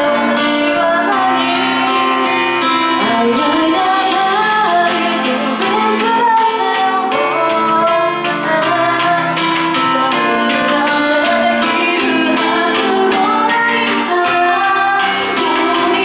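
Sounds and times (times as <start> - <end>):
instrumental backing music: 0.0 - 16.0
woman singing pop song: 0.0 - 16.0.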